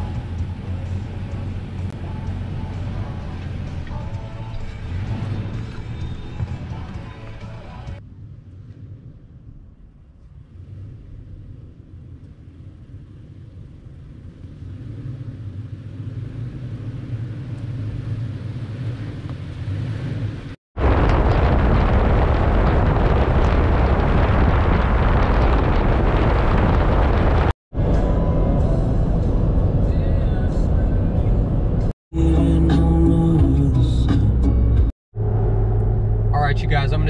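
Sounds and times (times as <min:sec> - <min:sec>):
wind and road noise: 0:00.0 - 0:32.0, 0:34.6 - 0:37.0
pickup engine and tyre rumble: 0:00.0 - 0:37.0.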